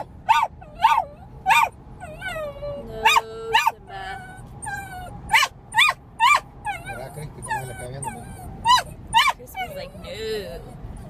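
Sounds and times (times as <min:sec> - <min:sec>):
small dog yipping: 0:00.0 - 0:10.2
dog whining: 0:00.0 - 0:11.0.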